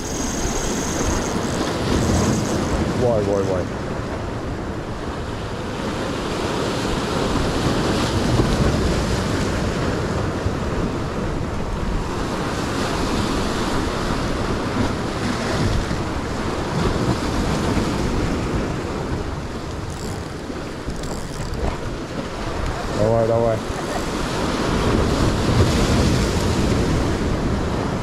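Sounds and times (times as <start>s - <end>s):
waves washing on rocky shore: 0.0s - 28.0s
wind buffeting microphone: 0.0s - 28.0s.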